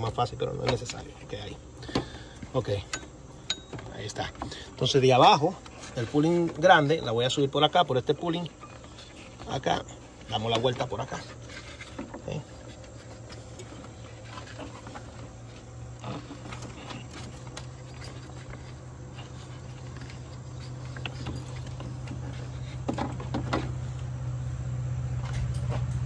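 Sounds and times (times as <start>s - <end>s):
belt rubbing and knocking: 0.0s - 24.1s
low machine hum: 0.0s - 26.0s.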